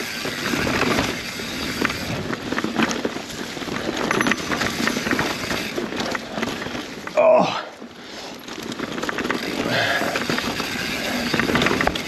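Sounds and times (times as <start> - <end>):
bike rattling clicks: 0.0 - 12.0
tyres rolling over dirt: 0.0 - 12.0.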